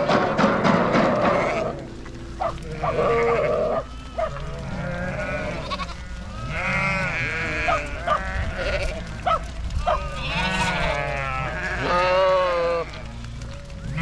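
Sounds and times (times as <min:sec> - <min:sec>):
sheep and lambs bleating: 0:01.1 - 0:14.0.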